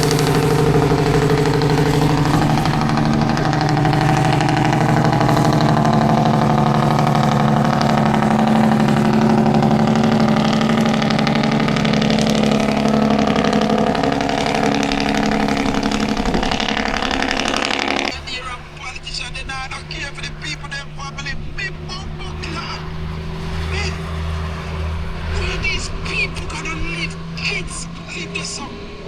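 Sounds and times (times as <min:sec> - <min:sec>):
truck engine brake pulsing drone: 0:00.0 - 0:29.0.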